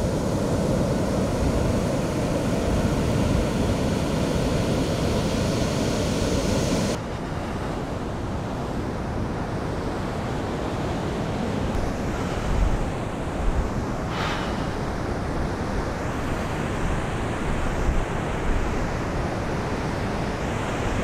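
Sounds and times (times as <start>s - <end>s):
ocean surf washing onto beach: 0.0s - 21.0s.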